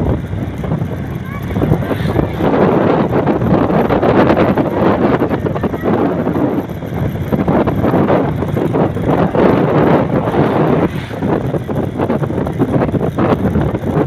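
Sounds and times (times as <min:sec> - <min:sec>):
vehicle and road noise: 0:00.0 - 0:14.0
wind buffeting microphone: 0:00.0 - 0:14.0.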